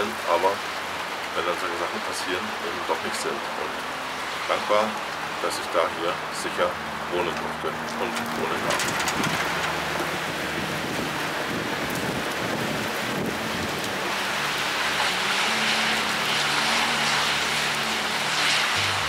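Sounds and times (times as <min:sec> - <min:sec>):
rain pouring in wind: 0:00.0 - 0:19.0.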